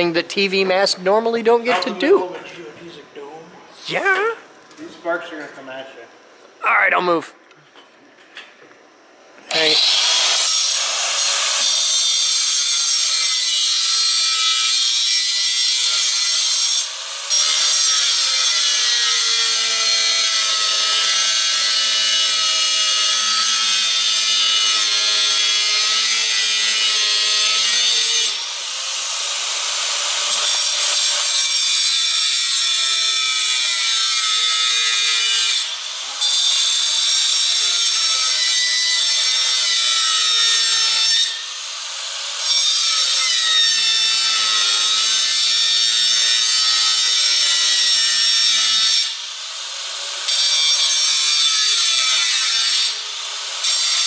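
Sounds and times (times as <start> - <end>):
angle grinder cutting metal: 9.5 - 54.0.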